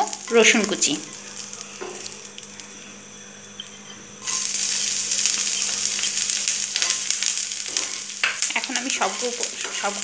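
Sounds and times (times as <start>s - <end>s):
garlic sizzling in oil: 0.0s - 2.7s, 4.2s - 10.0s
hot oil hissing: 0.0s - 3.0s, 4.2s - 10.0s.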